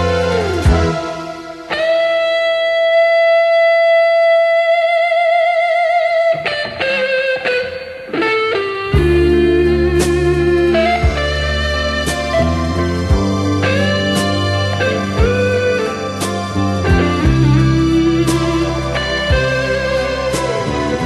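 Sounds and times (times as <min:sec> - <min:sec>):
bass guitar: 0:00.0 - 0:03.0, 0:06.3 - 0:21.0
guitar with vibrato: 0:00.0 - 0:21.0.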